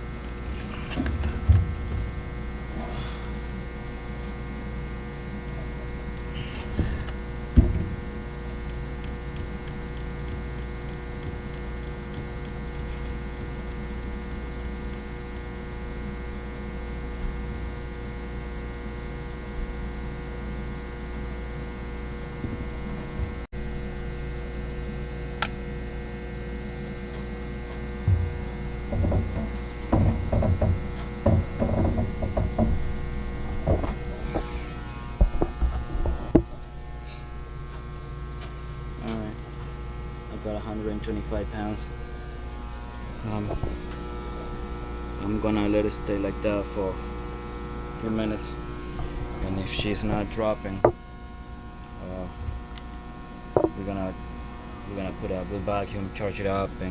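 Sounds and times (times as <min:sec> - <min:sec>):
electrical hum: 0:00.0 - 0:56.9.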